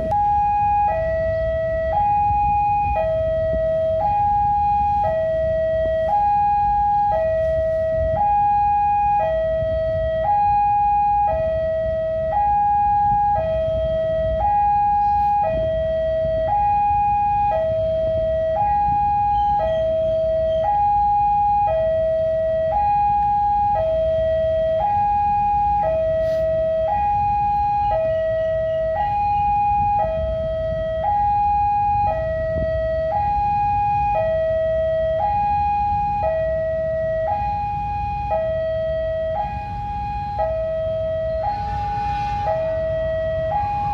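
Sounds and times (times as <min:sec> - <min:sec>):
two-tone crossing alarm: 0:00.0 - 0:43.9.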